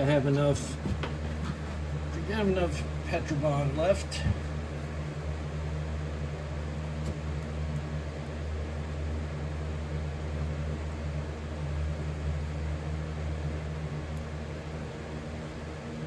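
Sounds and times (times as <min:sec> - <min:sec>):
fan noise: 0:00.0 - 0:16.0
low electrical hum: 0:00.0 - 0:16.0.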